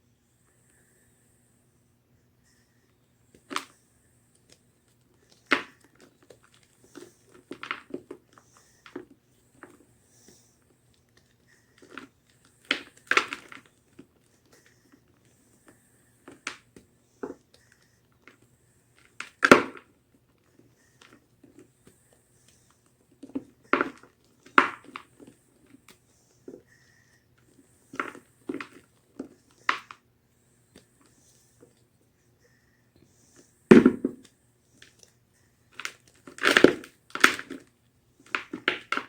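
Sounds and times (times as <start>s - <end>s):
small crackles: 2.9s - 32.5s, 33.2s - 39.0s.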